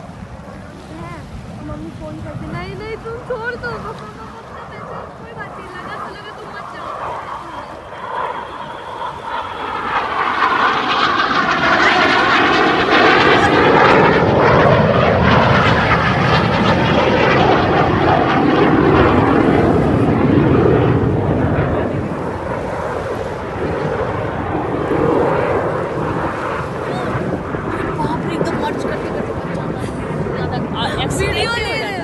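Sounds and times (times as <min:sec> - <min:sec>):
aircraft engine roar flying past: 0:00.0 - 0:32.0.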